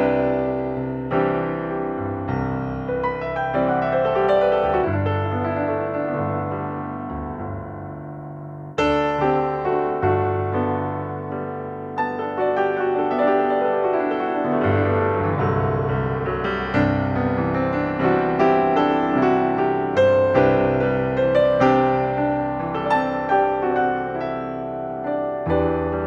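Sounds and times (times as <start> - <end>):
gentle piano piece: 0.0 - 26.0.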